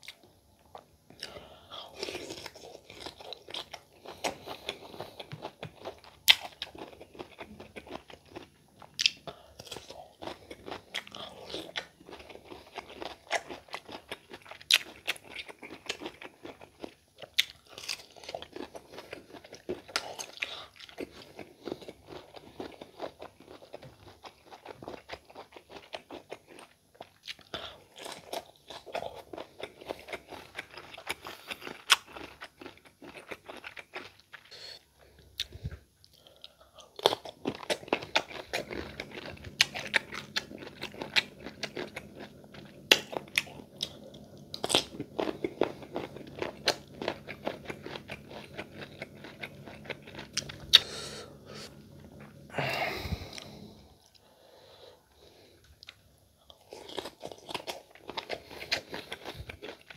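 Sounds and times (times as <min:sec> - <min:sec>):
crunching and chewing mango: 0:00.0 - 0:52.5, 0:55.2 - 0:59.9.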